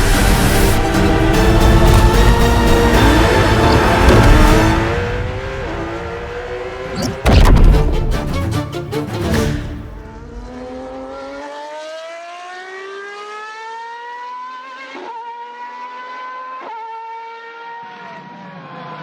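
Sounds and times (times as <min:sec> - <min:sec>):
car engine accelerating hard: 0:00.0 - 0:08.0, 0:09.9 - 0:19.0.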